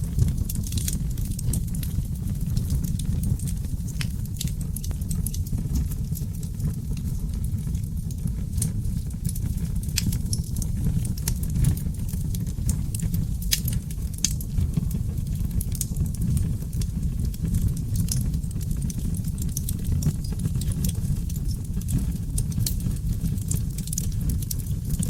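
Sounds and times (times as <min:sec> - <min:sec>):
fire flames rumbling: 0:00.0 - 0:25.0
logs crackling and popping: 0:00.0 - 0:25.0.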